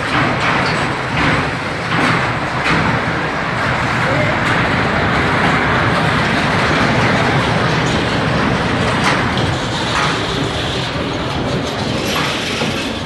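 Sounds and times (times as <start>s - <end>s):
bumper car motor rumble: 0.0s - 13.0s.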